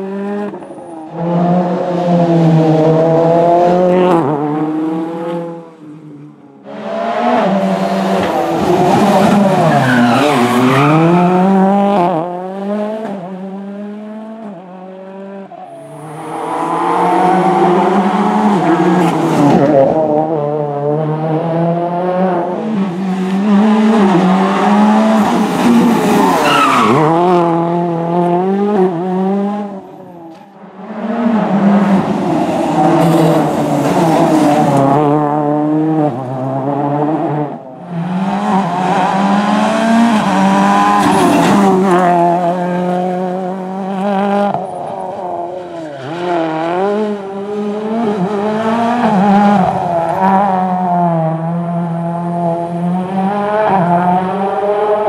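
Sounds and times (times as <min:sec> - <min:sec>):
rally car engine at full throttle: 0:00.0 - 0:55.0.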